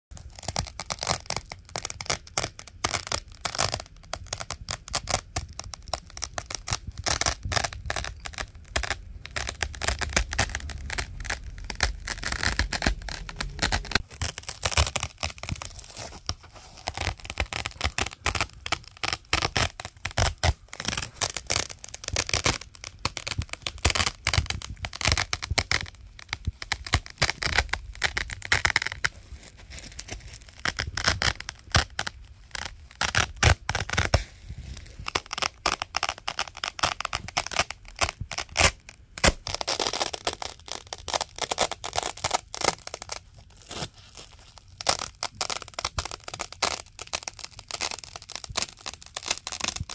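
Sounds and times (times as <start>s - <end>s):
velcro ripping apart: 0.2s - 49.9s.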